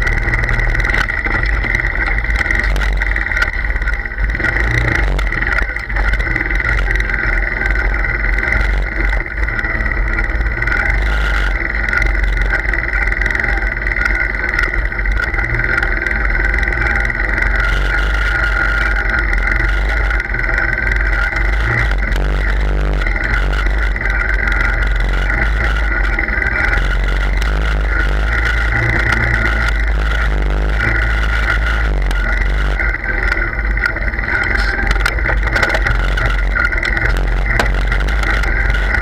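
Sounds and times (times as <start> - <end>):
vehicle motor whine: 0.0 - 39.0.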